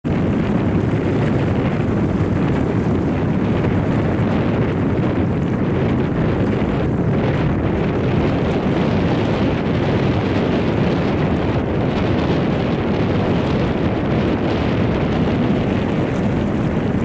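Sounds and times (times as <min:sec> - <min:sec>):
jet engines rumbling: 0:00.0 - 0:17.0
wind on microphone: 0:00.0 - 0:17.0.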